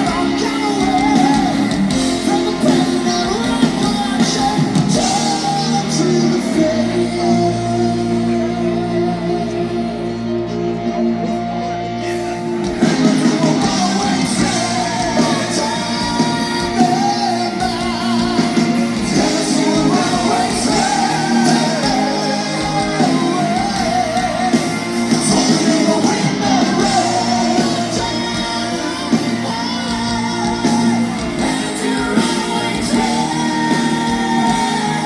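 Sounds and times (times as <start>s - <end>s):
metal band playing live: 0.0s - 35.0s.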